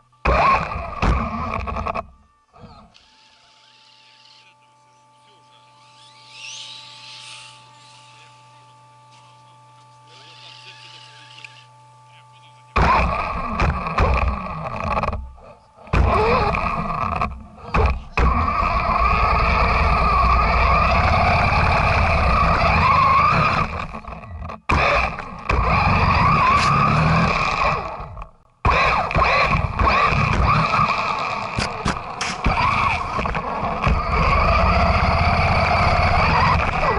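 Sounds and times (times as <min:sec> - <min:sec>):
toy truck motor whining: 0:00.0 - 0:04.6, 0:05.8 - 0:08.3, 0:10.0 - 0:11.7, 0:12.8 - 0:36.9.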